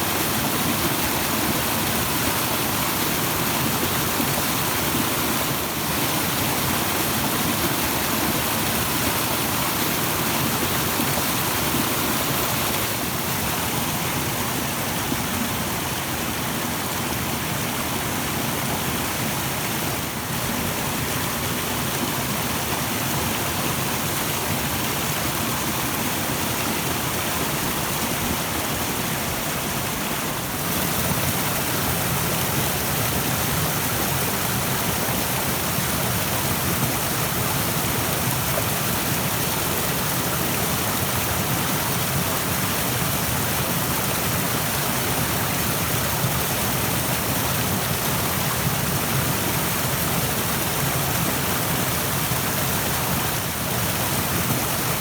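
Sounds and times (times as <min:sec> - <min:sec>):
rushing stream: 0:00.0 - 0:55.0.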